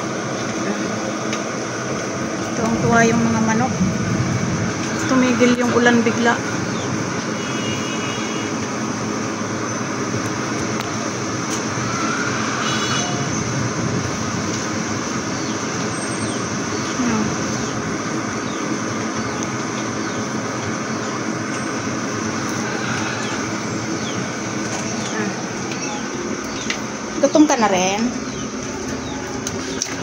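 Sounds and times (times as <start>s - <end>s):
steady rushing noise: 0.0s - 30.0s.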